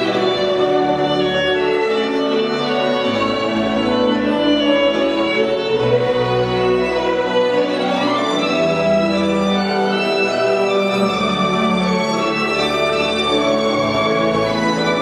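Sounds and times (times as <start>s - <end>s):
violin-led string music: 0.0s - 15.0s.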